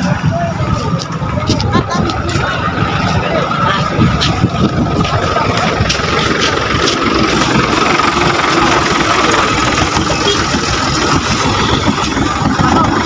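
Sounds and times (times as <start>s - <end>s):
engine idling loudly: 0.0s - 13.0s.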